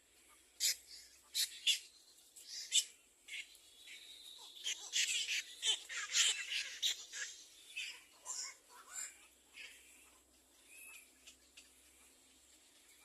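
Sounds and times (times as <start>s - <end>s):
nestling birds chirping: 0.0s - 13.0s.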